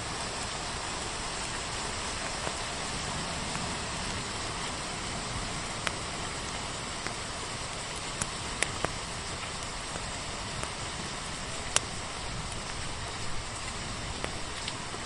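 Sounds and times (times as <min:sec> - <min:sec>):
rain hiss: 0:00.0 - 0:15.0
wood fire crackling: 0:01.4 - 0:15.0.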